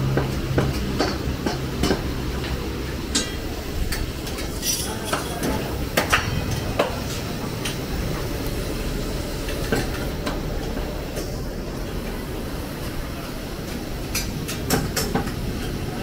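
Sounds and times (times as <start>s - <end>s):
frying hiss: 0.0s - 16.0s.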